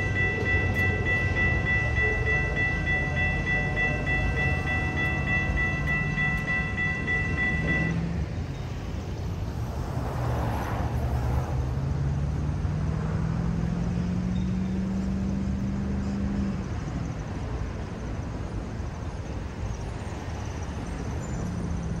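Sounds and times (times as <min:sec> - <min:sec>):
cars crossing railroad tracks: 0:00.0 - 0:22.0.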